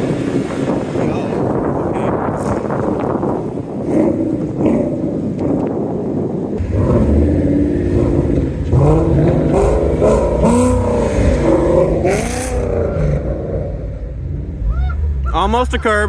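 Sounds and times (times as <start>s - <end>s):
car engine revving: 2.4s - 16.0s.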